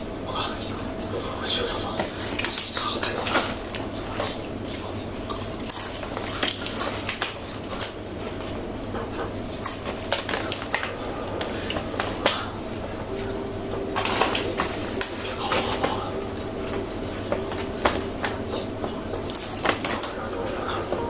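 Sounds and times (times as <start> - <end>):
steady low hum: 0.0 - 21.0
kitten crunching chips: 2.0 - 8.7, 9.4 - 12.5, 13.2 - 20.9.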